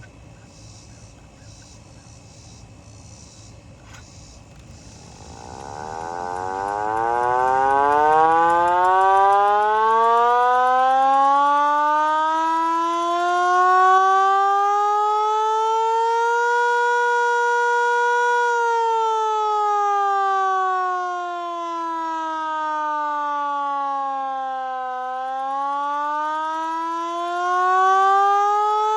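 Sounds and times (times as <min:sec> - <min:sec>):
hand-crank siren wailing: 0:04.5 - 0:28.9.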